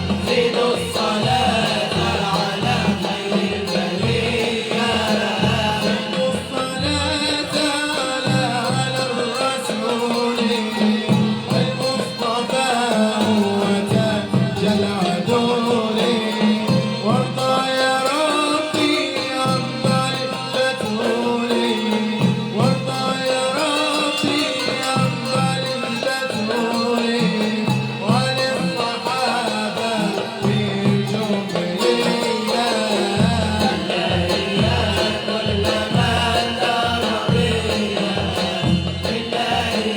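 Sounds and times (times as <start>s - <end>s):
drums: 0.0s - 39.9s
ensemble singing with instruments: 0.0s - 39.9s.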